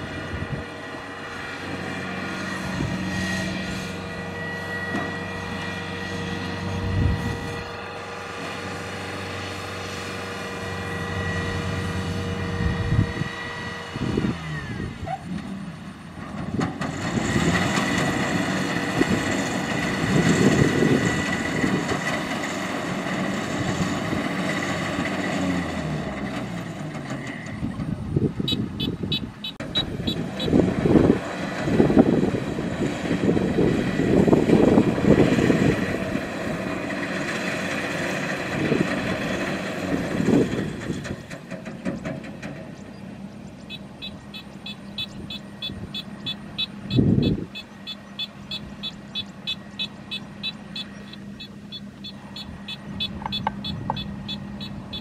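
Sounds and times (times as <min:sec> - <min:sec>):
combine harvester engine running: 0:00.0 - 0:55.0.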